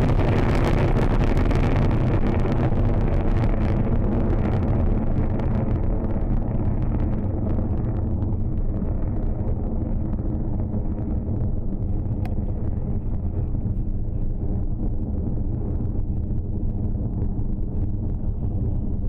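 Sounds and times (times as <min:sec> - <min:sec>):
rocket engines rumbling: 0:00.0 - 0:19.0.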